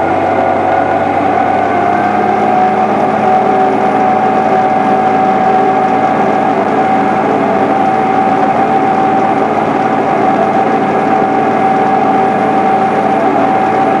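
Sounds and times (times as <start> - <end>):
steady whine: 0.0 - 14.0
tractor diesel engine running: 0.0 - 14.0.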